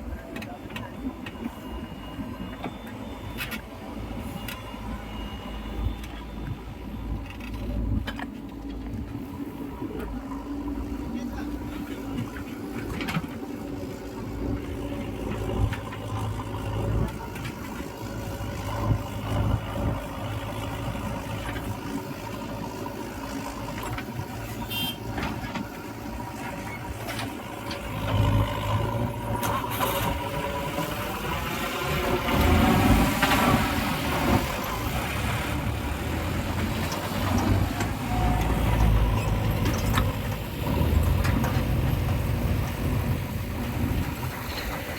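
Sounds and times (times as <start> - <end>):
diesel engines revving: 8.8 - 44.9.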